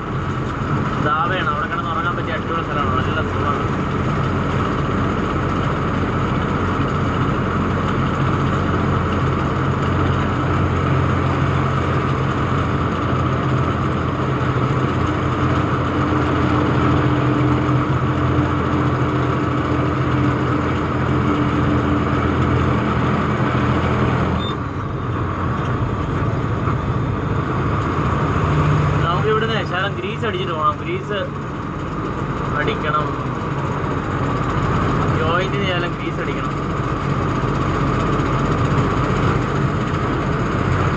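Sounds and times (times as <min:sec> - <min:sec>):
diesel truck engine running: 0:00.0 - 0:40.9
road noise: 0:00.0 - 0:40.9.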